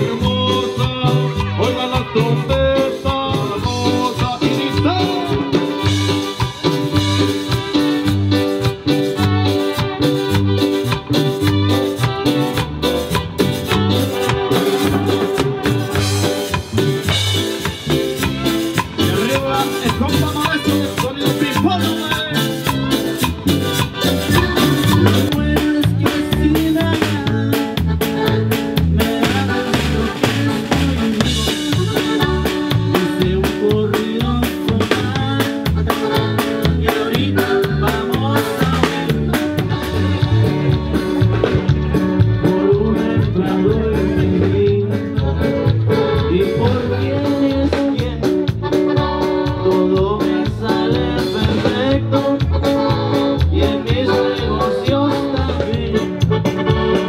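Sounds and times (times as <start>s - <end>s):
person singing: 0.0s - 7.4s, 13.8s - 23.4s, 24.3s - 57.0s
accordion: 0.0s - 57.0s
bass: 0.0s - 57.0s
drum kit beat: 0.0s - 57.0s
keyboard: 0.0s - 57.0s.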